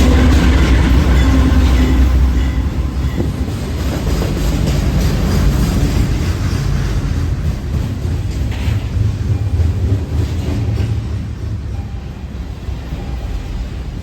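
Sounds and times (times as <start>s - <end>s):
train low rumble: 0.0s - 14.0s
train wheels clattering on rails: 0.0s - 14.0s.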